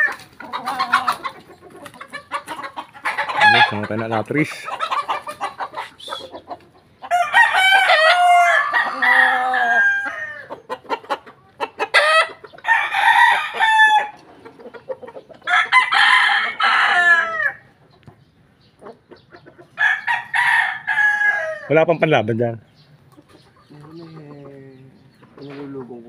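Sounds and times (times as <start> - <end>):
roosters crowing: 0.0 - 17.9, 18.9 - 22.0.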